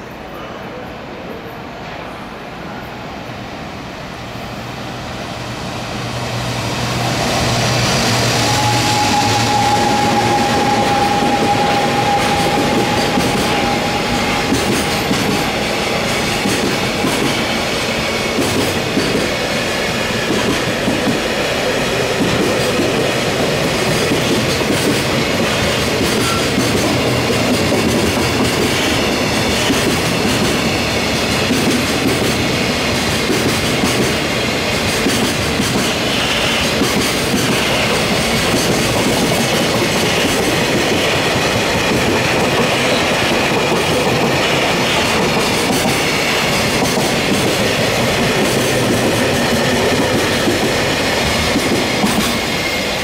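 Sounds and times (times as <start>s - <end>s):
electric locomotive whine: 0.0s - 53.0s
train wheels clattering on rail: 6.1s - 53.0s.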